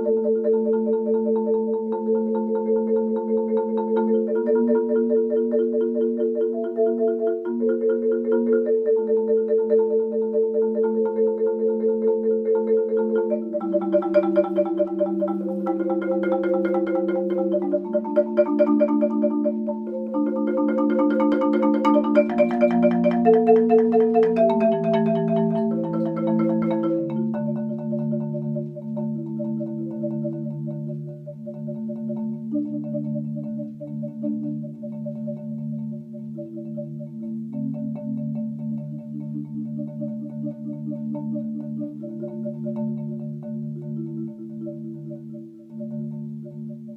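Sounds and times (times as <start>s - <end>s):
marimba chords: 0.0s - 46.9s.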